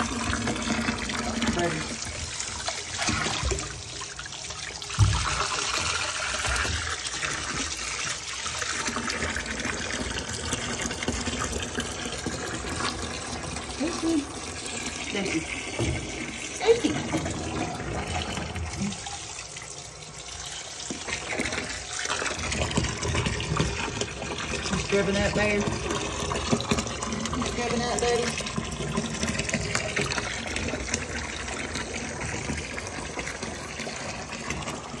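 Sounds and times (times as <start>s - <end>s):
tap water running into bathtub: 0.0s - 35.0s.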